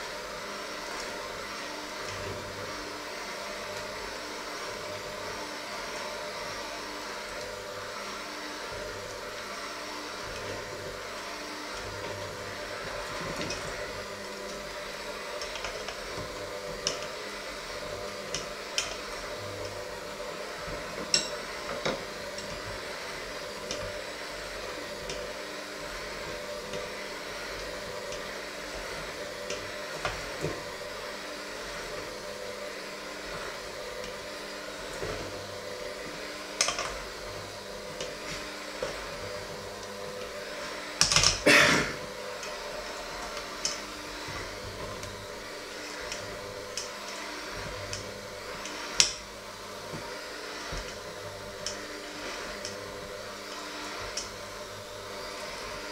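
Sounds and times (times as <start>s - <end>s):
electric mixer running: 0.0s - 55.9s.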